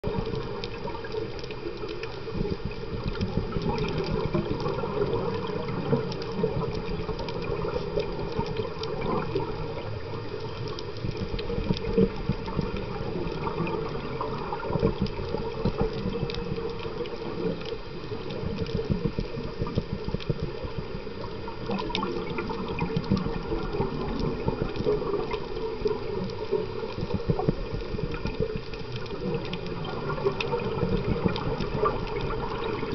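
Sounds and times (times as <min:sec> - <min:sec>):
gurgling rush of bubbles: 0:00.0 - 0:32.9
small clicks: 0:00.1 - 0:32.9.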